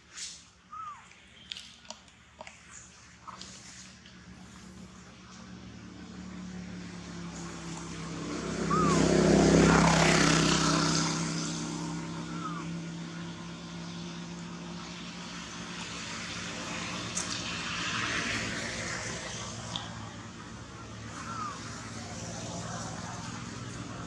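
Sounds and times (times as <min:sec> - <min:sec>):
vehicle engine passing by: 0:03.4 - 0:24.0.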